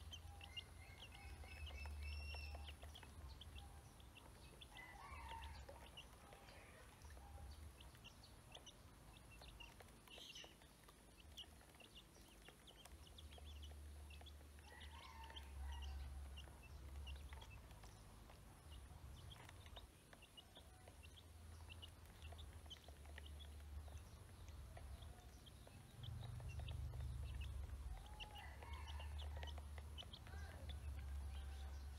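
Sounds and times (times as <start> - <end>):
ducklings and chicks peeping: 0.0 - 31.9.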